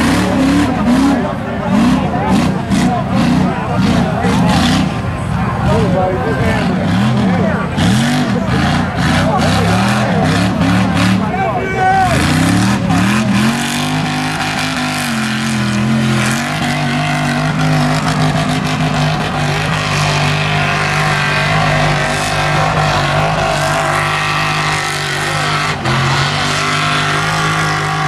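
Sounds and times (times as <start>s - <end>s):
truck engines revving high: 0.0s - 28.0s.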